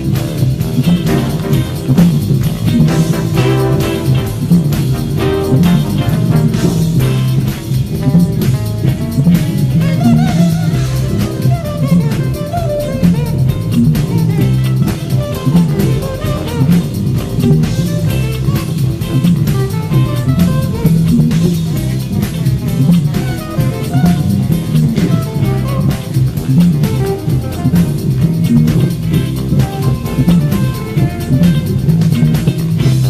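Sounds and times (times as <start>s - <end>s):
electric bass line: 0.0s - 33.0s
jazz fusion band: 0.0s - 33.0s.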